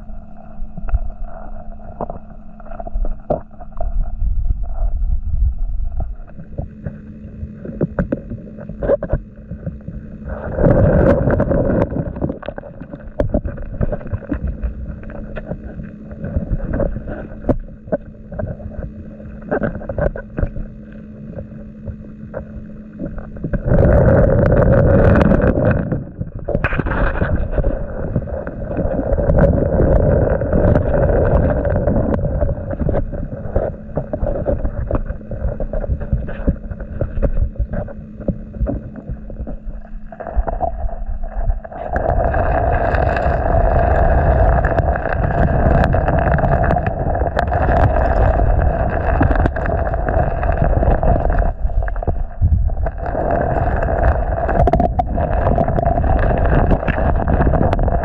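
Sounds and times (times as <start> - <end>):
muffled underwater river rush: 0.0 - 58.0.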